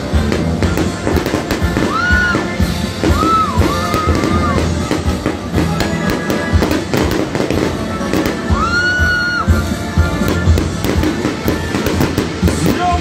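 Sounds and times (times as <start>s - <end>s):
fireworks bangs and crackles: 0.0s - 13.0s
loud music: 0.0s - 13.0s.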